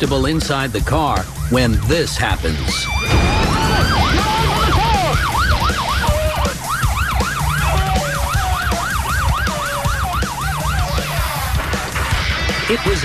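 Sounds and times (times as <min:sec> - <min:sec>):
music beat: 0:00.0 - 0:13.0
police siren yelping: 0:01.2 - 0:13.0.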